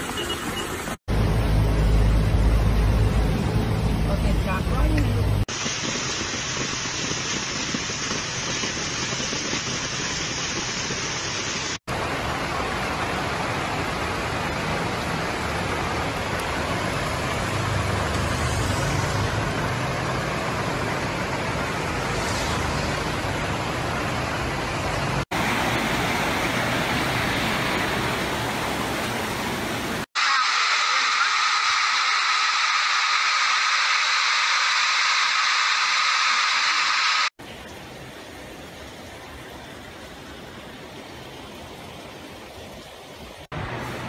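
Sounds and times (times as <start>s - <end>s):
heavy rain and rushing floodwater: 0.0s - 44.0s.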